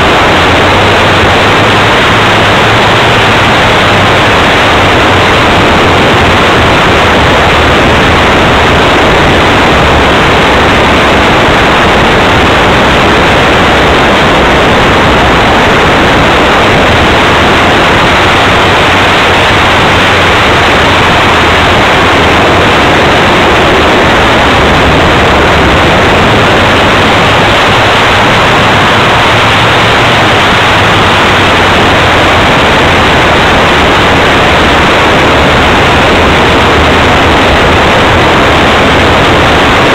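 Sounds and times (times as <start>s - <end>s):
model airplane propeller noise: 0.0s - 39.9s
wind rushing: 0.0s - 39.9s.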